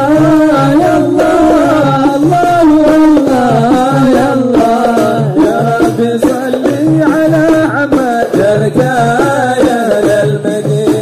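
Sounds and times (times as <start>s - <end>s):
low hand drums: 0.0s - 11.0s
ornamented devotional melody: 0.0s - 11.0s.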